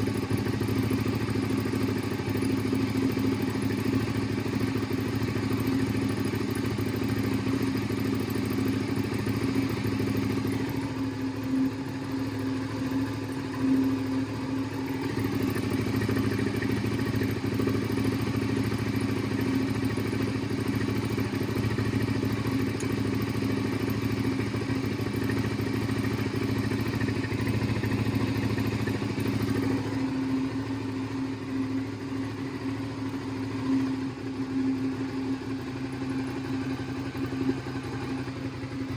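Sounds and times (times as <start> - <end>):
motorcycle engine running at low revs: 0.0 - 38.9.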